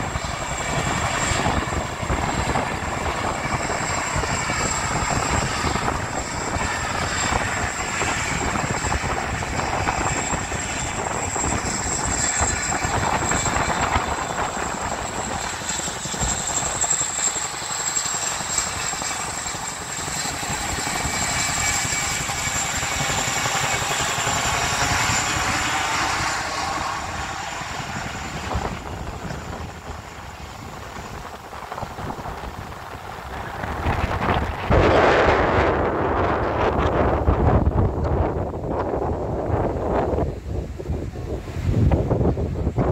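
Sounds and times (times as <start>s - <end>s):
helicopter rotor noise: 0.0s - 42.9s
high turbine whine: 0.0s - 42.9s.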